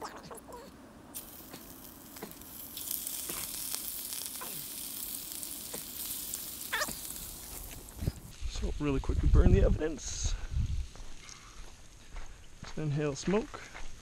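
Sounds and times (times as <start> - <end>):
fire crackles and pops: 1.1 - 12.6
food sizzling over campfire: 1.1 - 14.0.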